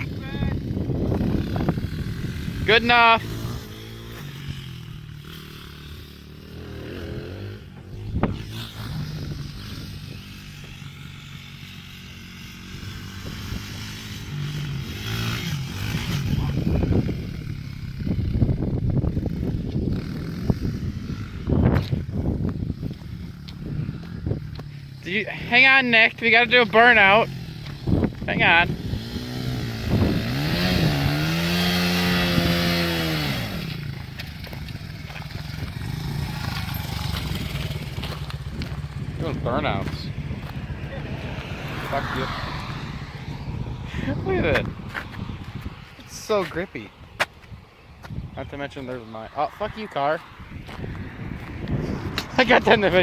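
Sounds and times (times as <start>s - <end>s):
dirt bike engine revving: 0.0s - 45.4s, 48.5s - 53.0s.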